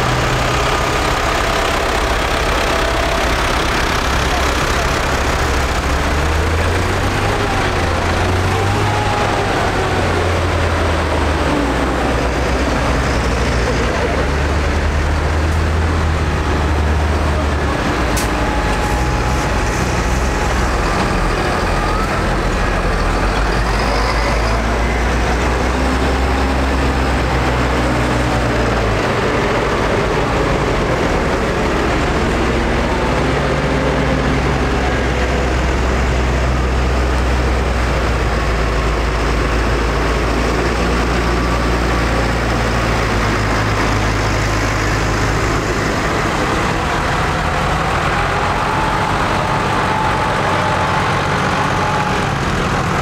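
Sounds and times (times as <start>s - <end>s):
tractor engines droning: 0.0s - 53.0s.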